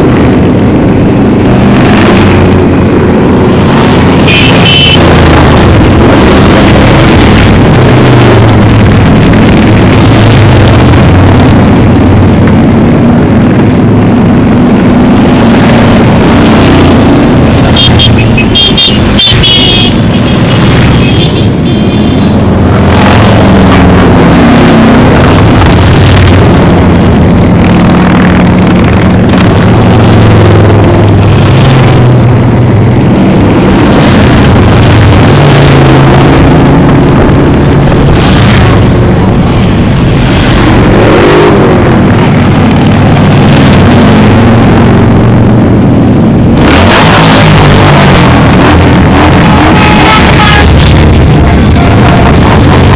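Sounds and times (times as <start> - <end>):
loud rush of noise: 0.0 - 52.9.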